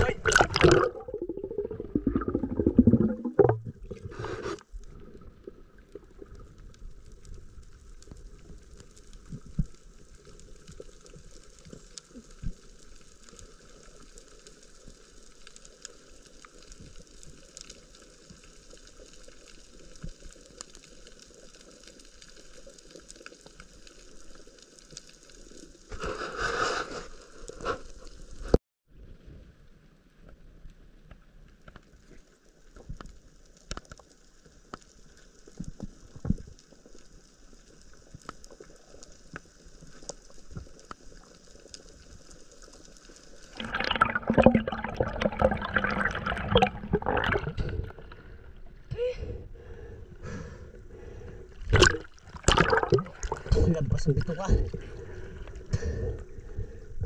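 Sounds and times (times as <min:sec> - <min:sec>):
watery hiss and crackle: 0:00.0 - 0:28.6, 0:30.2 - 0:57.0.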